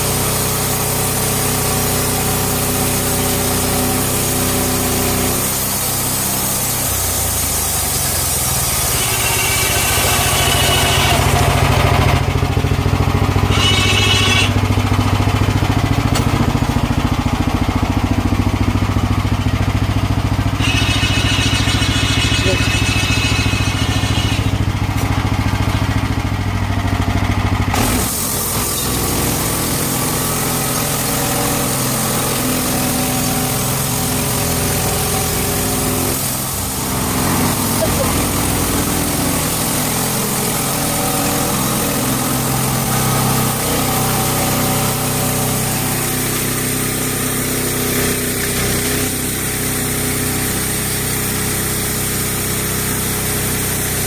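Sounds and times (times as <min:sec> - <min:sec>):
bandsaw mill engine running: 0:00.0 - 0:54.0.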